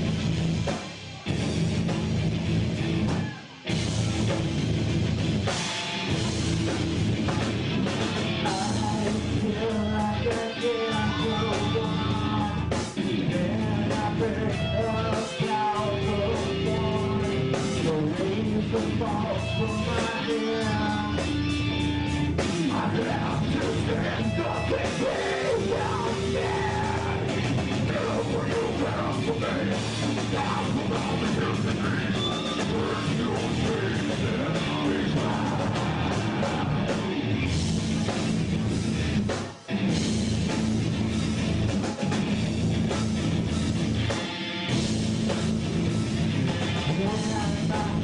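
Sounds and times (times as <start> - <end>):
heavy rock band with singing: 0.0 - 48.0.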